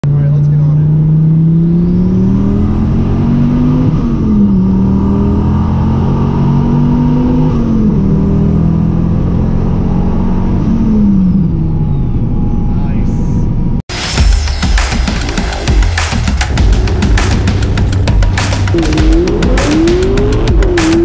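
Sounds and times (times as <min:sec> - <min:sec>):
car engine cruising: 0:00.0 - 0:13.8, 0:15.1 - 0:21.0.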